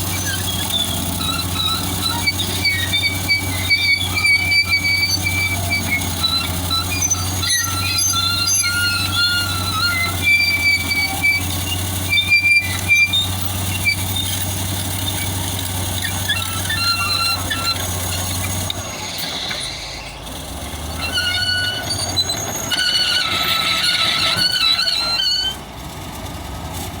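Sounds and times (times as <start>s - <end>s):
steel tracks squealing: 0.0s - 25.7s
bulldozer engine running: 0.0s - 27.0s.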